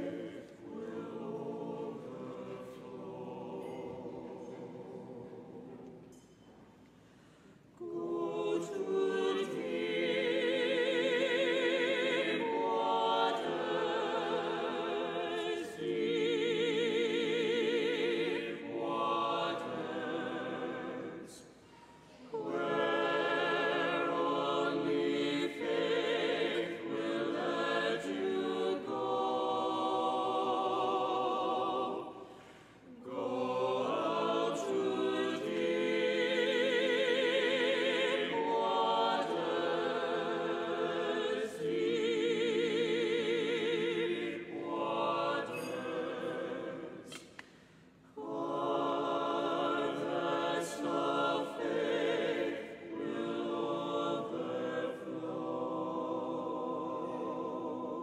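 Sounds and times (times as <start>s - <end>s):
church choir singing a hymn: 0.0s - 6.3s, 7.2s - 58.0s.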